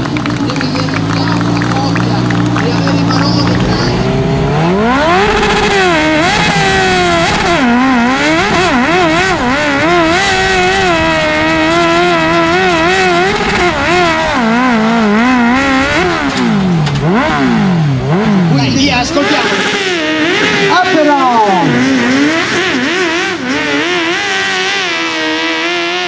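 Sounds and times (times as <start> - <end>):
motorcycle engine revving under load: 0.0 - 26.0.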